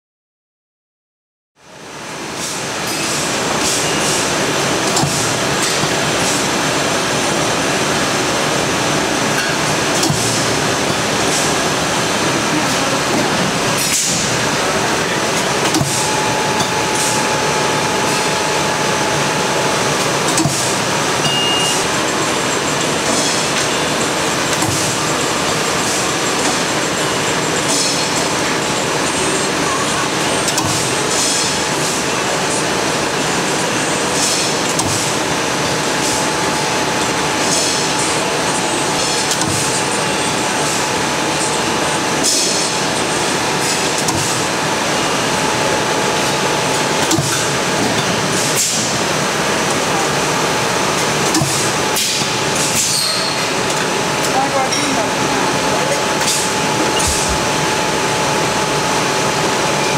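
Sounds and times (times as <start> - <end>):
machine shop din: 1.6 - 59.9.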